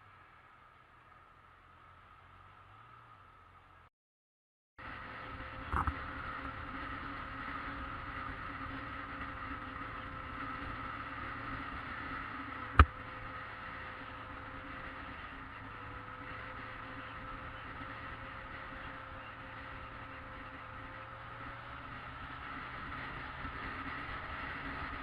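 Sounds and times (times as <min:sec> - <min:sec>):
motorcycle engine running: 0:04.8 - 0:25.0.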